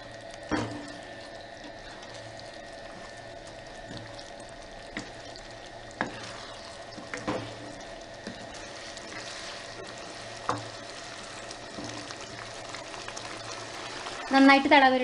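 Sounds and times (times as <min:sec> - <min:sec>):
curry bubbling and sizzling: 0:00.0 - 0:15.0.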